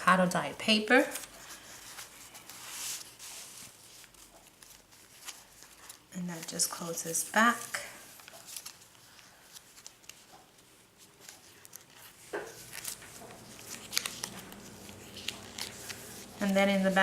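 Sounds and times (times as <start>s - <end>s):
paper pages rustling: 1.0s - 17.0s.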